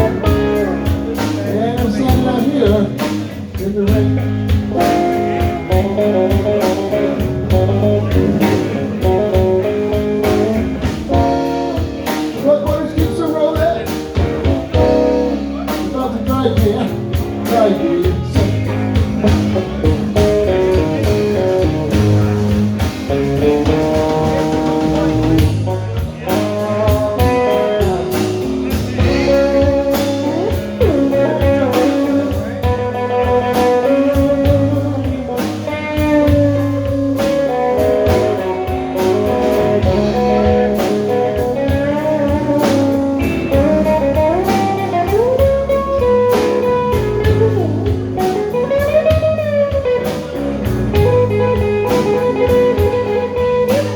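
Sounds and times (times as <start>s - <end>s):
bass guitar: 0.0s - 53.9s
electric guitar solo: 0.0s - 53.9s
steady drum beat: 0.0s - 53.9s.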